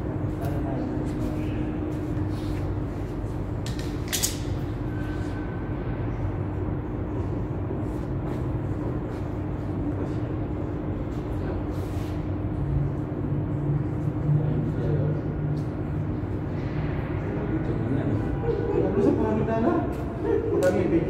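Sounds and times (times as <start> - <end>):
low mechanical rumble with hum: 0.0 - 21.0.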